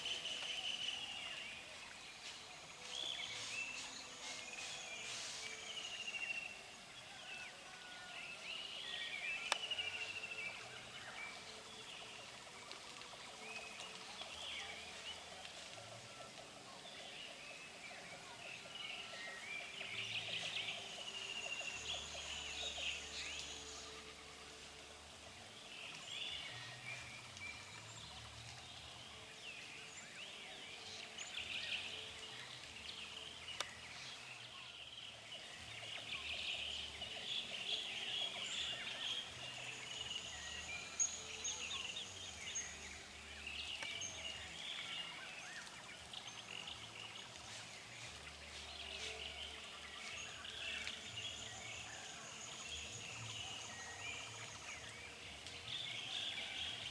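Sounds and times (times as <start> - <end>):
birds chirping and trilling: 0.0 - 56.9.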